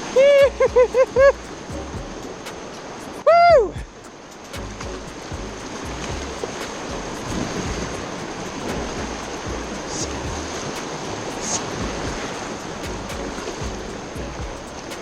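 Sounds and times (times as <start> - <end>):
whitewater rushing and splashing: 0.0 - 15.0
wind buffeting microphone: 0.0 - 15.0.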